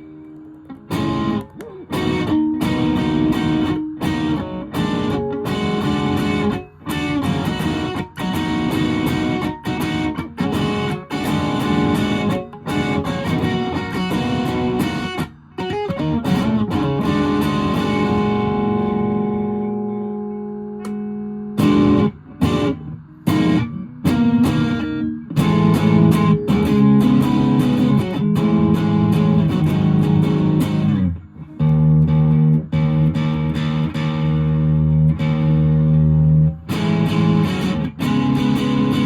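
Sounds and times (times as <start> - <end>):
distorted electric guitar chords: 0.0 - 39.0.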